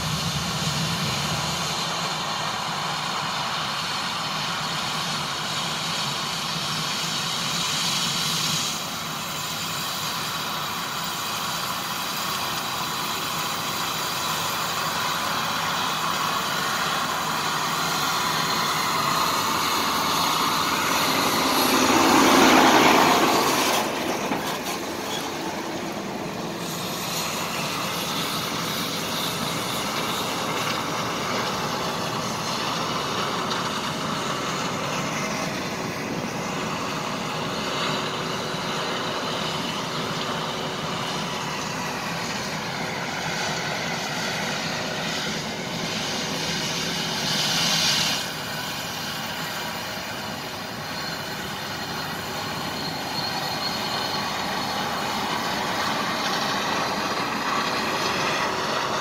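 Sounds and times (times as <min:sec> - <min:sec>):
combine harvester drone: 0:00.0 - 0:59.0
tractor pulling grain cart: 0:00.0 - 0:59.0
truck passing by: 0:00.0 - 0:59.0.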